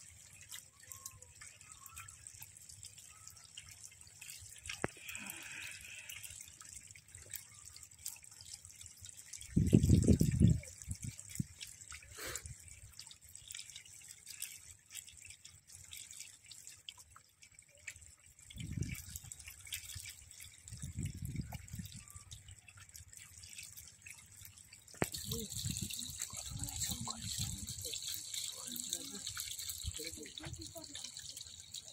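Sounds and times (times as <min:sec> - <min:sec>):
water trickling and dripping: 0:00.0 - 0:31.9.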